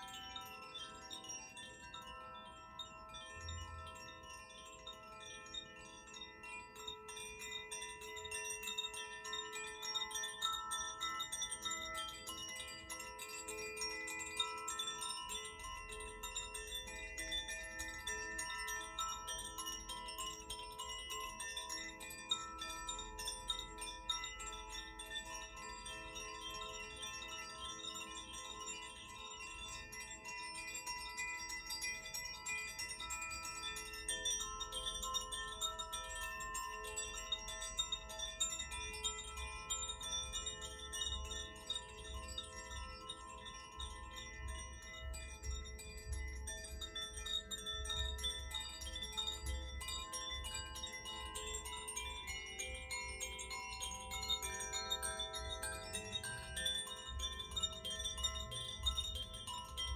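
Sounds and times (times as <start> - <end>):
wind chimes ringing: 0.0 - 59.9.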